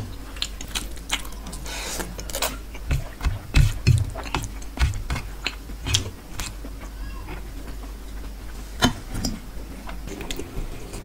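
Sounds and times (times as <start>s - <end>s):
fingers working food on steel plate: 0.0s - 11.0s.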